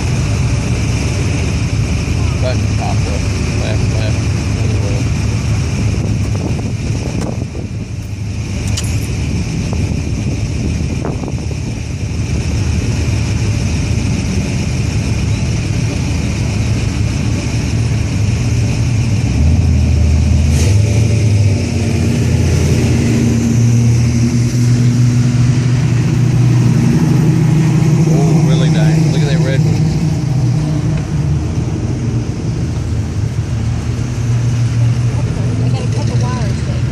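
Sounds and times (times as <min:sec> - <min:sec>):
car engines in slow traffic: 0:00.0 - 0:36.9
engine revving: 0:00.0 - 0:36.9.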